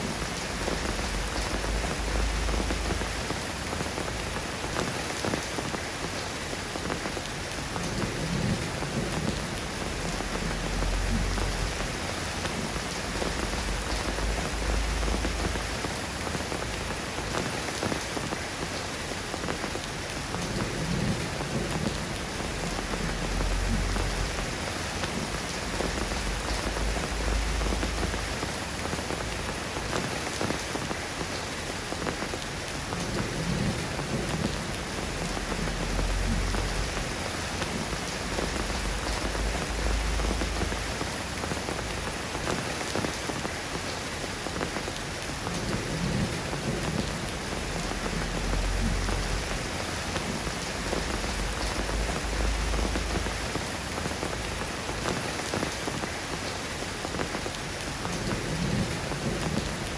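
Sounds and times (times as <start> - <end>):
soft rain pattering: 0.0 - 59.9.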